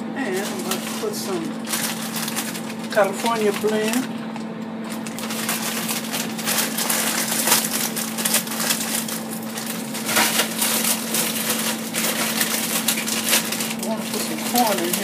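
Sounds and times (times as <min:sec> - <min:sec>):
frozen pieces rattling into basket: 0:00.2 - 0:04.1, 0:04.8 - 0:15.0
plastic bag crinkling: 0:00.2 - 0:15.0.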